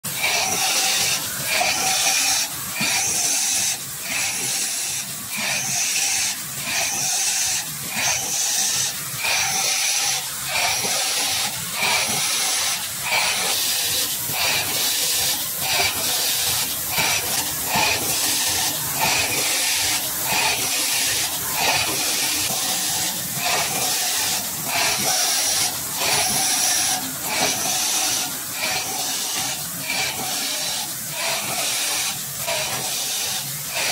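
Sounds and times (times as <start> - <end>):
machine mechanism running: 0.1 - 33.9
pneumatic air hisses: 0.3 - 33.9.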